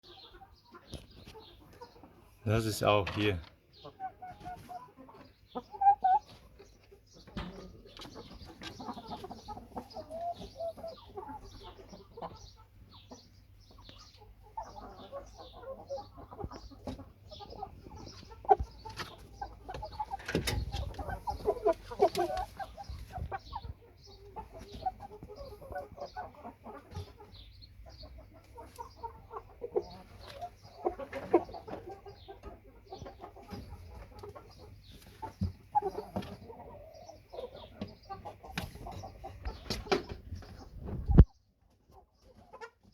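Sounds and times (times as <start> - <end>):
chicken clucking: 0.0 - 42.9.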